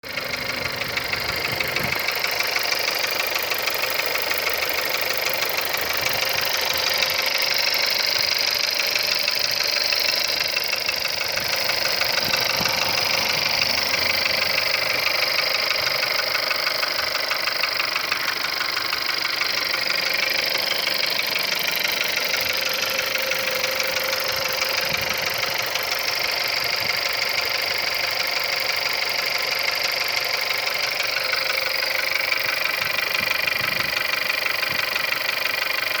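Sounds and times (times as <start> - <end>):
engine idling with knocking: 0.0 - 36.0.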